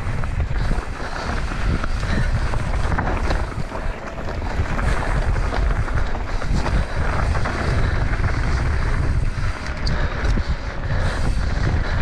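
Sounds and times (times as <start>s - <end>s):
bike clicks and rattles: 0.0s - 12.0s
tyre rumble on dirt trail: 0.0s - 12.0s
wind buffeting microphone: 0.0s - 12.0s.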